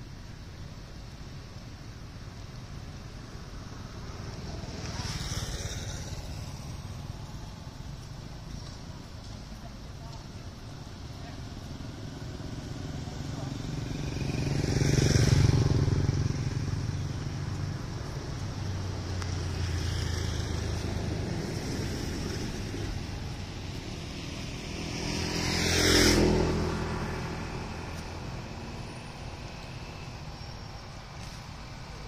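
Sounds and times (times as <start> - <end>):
vehicles driving past: 0.0 - 32.0.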